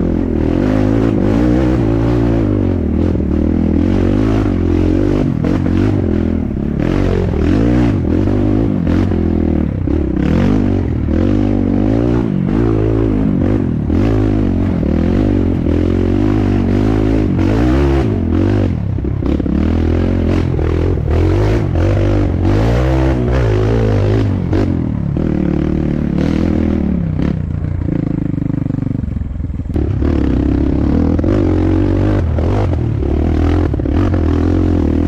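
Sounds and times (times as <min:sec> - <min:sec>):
dirt bike engine revving: 0:00.0 - 0:28.7, 0:29.6 - 0:35.0.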